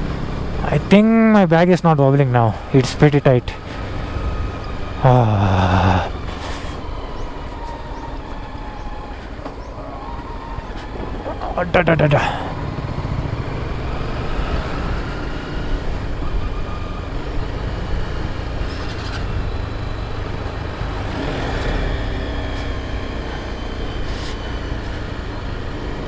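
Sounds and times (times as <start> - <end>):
motorcycle engine rumbling: 0.0 - 26.0
road and wind noise: 0.0 - 26.0.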